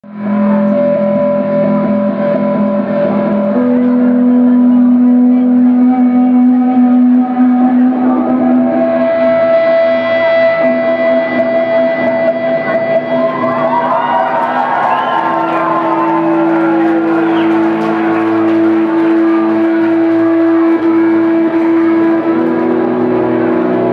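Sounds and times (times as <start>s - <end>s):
steady low drone: 0.0s - 23.9s
live band long held notes: 0.1s - 23.9s.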